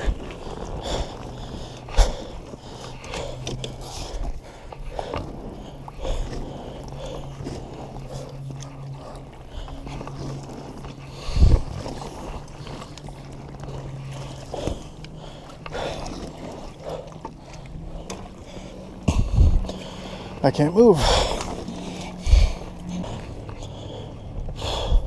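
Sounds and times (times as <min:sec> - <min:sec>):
reeds rustling against hull: 0:00.0 - 0:24.9
paddle strokes in water: 0:00.0 - 0:25.0.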